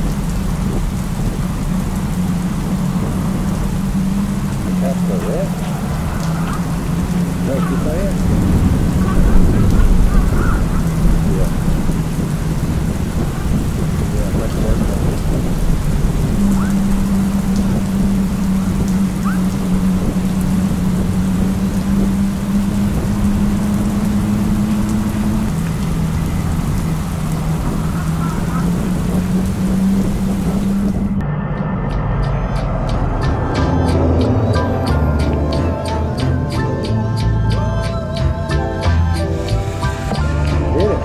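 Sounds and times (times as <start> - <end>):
rain: 0.0 - 31.3, 32.4 - 41.0
low motor hum: 0.0 - 41.0
wind rumble on microphone: 0.0 - 41.0.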